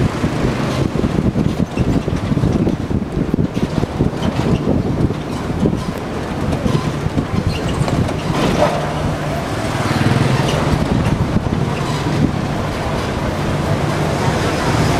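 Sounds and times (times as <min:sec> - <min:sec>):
road noise: 0:00.0 - 0:14.9
traffic engine hum: 0:00.0 - 0:14.9.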